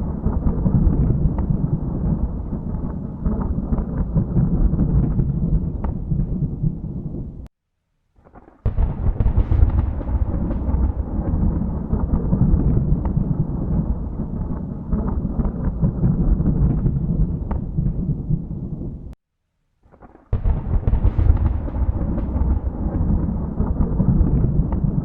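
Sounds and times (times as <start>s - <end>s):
thunder rumbling: 0.0s - 7.5s, 8.6s - 19.2s, 20.3s - 25.0s.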